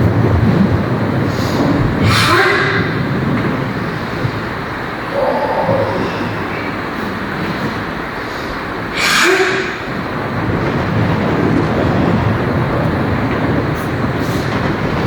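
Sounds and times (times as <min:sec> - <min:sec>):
low rumble: 0:00.0 - 0:09.0, 0:09.8 - 0:15.0
heavy rain pouring: 0:00.0 - 0:15.0.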